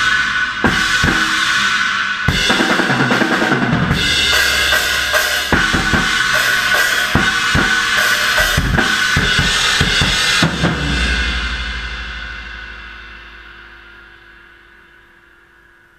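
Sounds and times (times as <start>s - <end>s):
death metal drumming: 0.0s - 14.8s
cymbal crash ringing: 0.0s - 15.9s.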